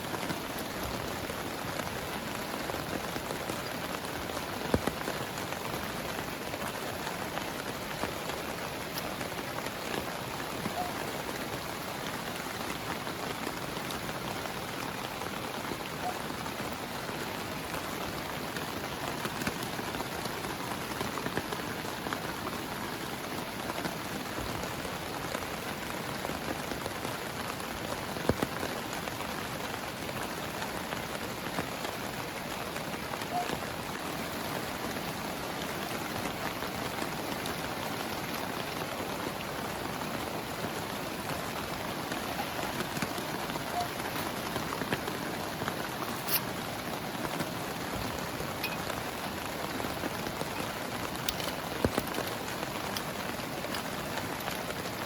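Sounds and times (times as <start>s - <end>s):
heavy rain on a tent: 0.0s - 55.0s.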